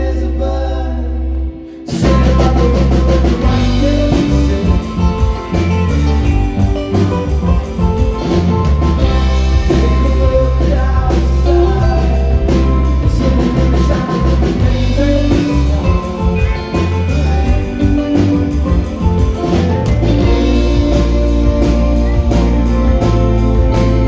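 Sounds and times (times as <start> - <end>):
live rock band playing: 1.9 - 24.0.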